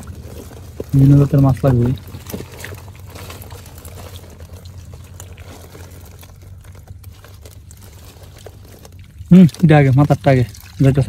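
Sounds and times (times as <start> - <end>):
hands rummaging through wet fish: 0.0 - 11.0
small wet clicks and crackles: 0.0 - 11.0.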